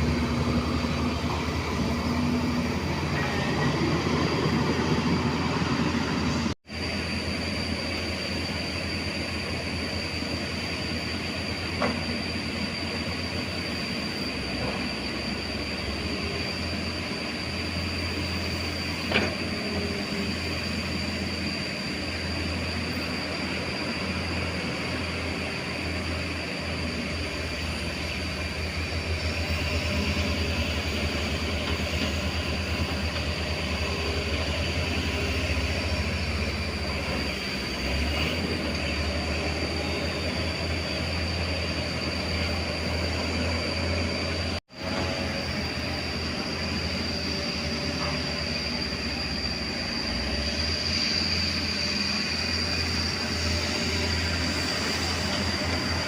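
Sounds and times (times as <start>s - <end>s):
excavator diesel engine rumbling: 0.0s - 56.0s.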